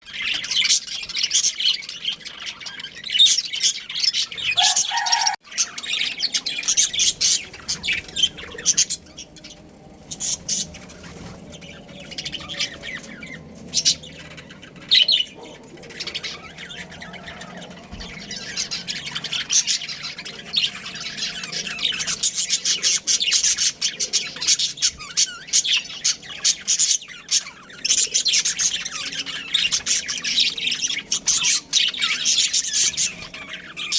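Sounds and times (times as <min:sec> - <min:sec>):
budgerigars chattering and chirping: 0:00.0 - 0:33.9.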